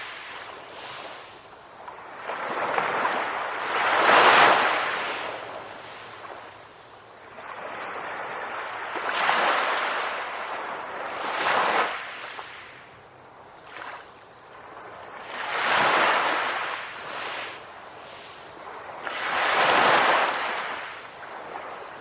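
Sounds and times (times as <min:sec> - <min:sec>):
ocean waves breaking on shore: 0:00.0 - 0:22.0.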